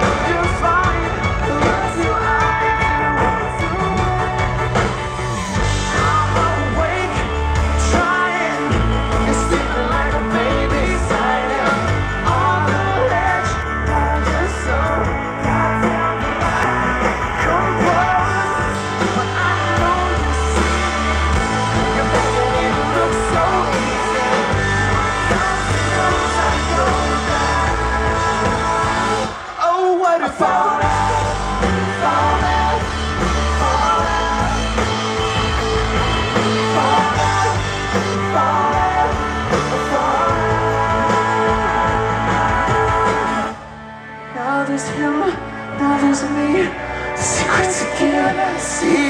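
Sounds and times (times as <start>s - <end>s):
lead vocals: 0.0s - 49.0s
pop-rock band playing live: 0.0s - 49.0s.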